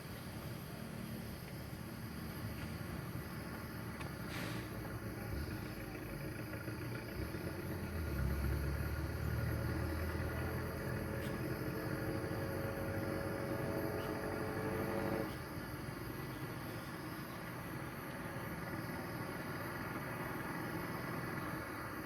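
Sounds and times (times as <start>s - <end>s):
vehicle engine rumble and whine: 0.0s - 22.0s.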